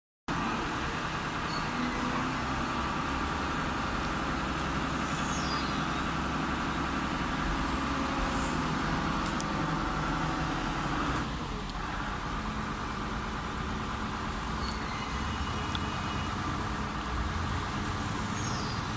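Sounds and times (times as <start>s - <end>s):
forklift engine running: 0.3s - 18.9s.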